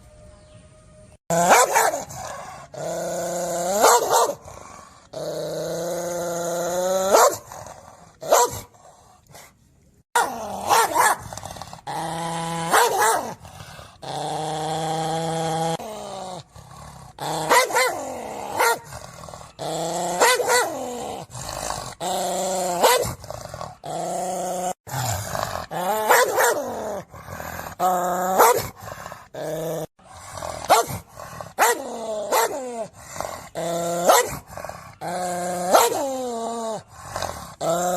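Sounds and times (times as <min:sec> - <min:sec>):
dog barking and growling: 0:01.3 - 0:09.5, 0:10.1 - 0:37.9.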